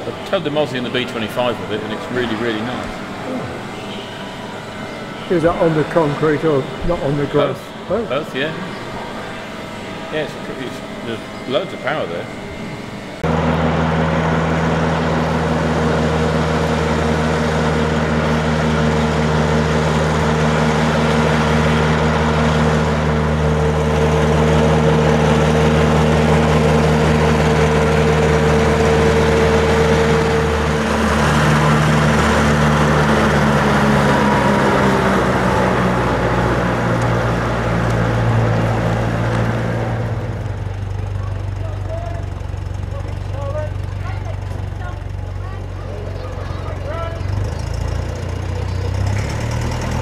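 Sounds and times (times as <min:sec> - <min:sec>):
tractor engine idling: 0:00.0 - 0:50.0.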